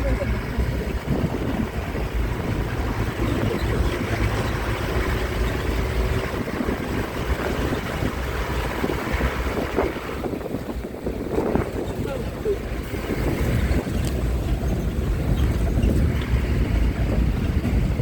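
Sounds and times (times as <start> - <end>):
moving bus rumble: 0.0 - 18.0
wind buffeting microphone: 0.0 - 18.0.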